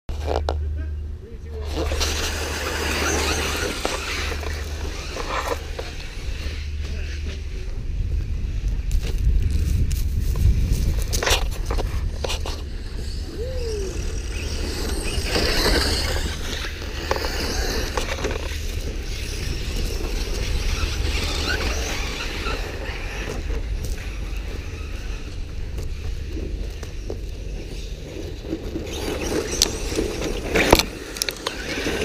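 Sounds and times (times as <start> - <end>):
rc cars whirring on dirt: 0.1 - 32.0
steady low rumble: 0.1 - 32.0.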